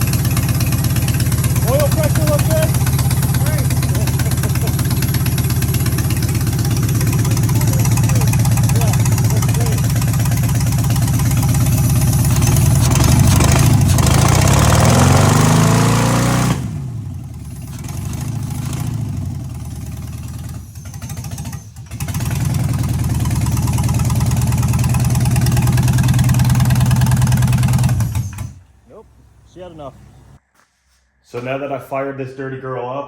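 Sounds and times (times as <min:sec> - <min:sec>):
engine running rough and revving: 0:00.0 - 0:30.4.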